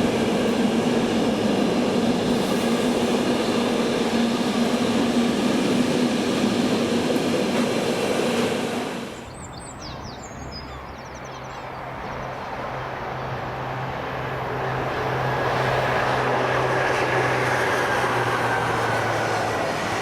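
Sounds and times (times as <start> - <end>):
train approaching with rail noise: 0.0 - 20.0.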